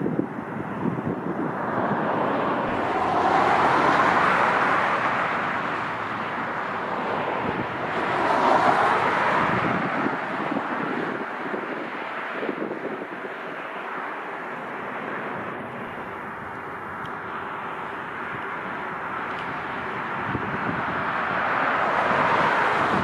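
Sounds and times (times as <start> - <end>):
wind buffeting microphone: 0.0 - 17.3, 18.0 - 23.0
jet aircraft noise: 0.0 - 23.0.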